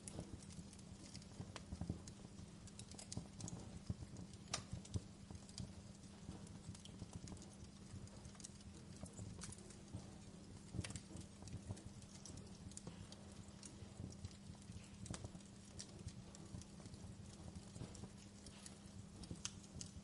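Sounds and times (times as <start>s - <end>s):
faint low hum: 0.0s - 20.0s
wood fire crackling: 0.0s - 20.0s.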